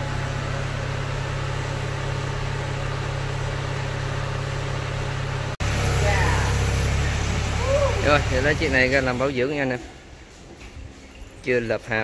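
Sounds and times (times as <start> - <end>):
engine idling hum: 0.0 - 11.4.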